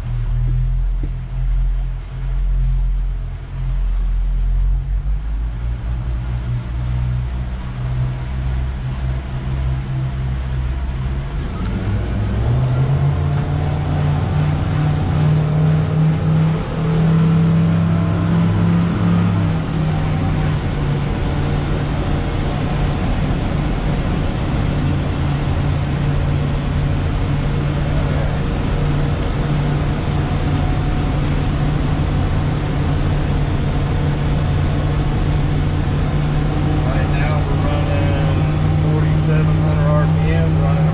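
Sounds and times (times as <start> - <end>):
boat engines droning: 0.0 - 40.9
water and wind hiss: 0.0 - 40.9.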